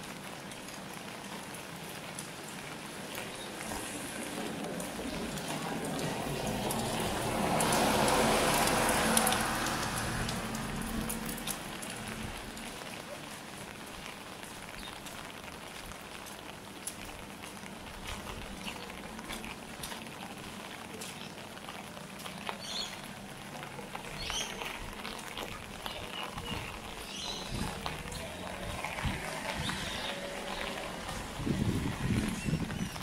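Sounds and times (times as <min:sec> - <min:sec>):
light rain pattering: 0:00.0 - 0:33.0.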